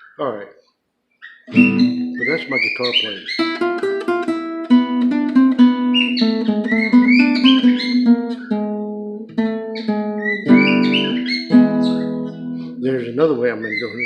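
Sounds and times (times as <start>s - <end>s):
bird chirping: 0.0s - 4.4s, 5.1s - 14.0s
acoustic guitar playing: 1.5s - 14.0s.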